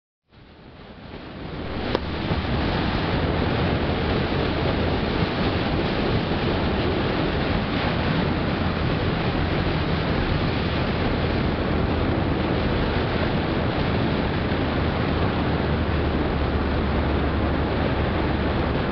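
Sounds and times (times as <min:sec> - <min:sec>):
car cabin road noise: 0:01.5 - 0:18.9.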